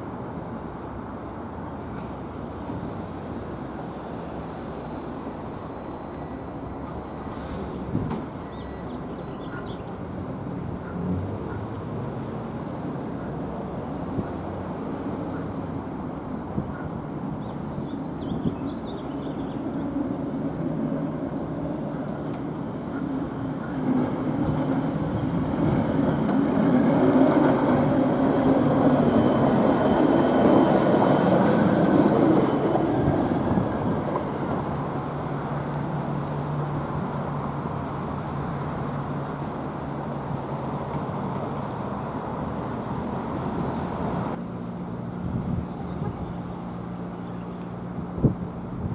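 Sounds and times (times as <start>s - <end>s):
train wheels rumbling on rail: 0.1s - 44.4s.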